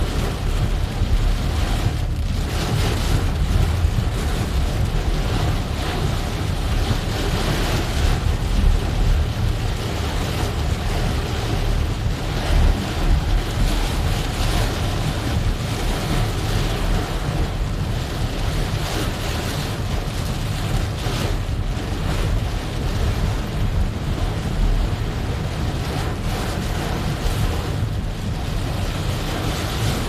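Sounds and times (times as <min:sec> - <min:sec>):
heavy rain falling: 0:00.0 - 0:30.0
wind rumble on microphone: 0:00.0 - 0:30.0.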